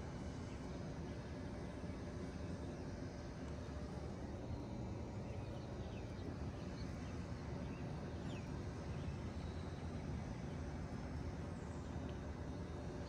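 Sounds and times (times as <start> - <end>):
heat pump low rumble: 0.0 - 13.0.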